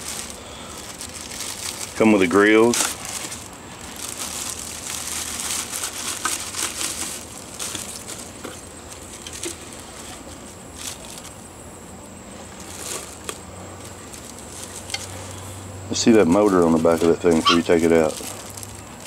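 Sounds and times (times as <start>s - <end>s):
plastic wrap crinkling: 0.0s - 11.4s, 12.3s - 19.0s.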